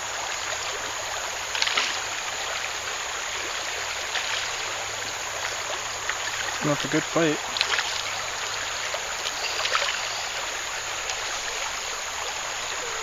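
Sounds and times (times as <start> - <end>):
creek water babbling: 0.0 - 13.0.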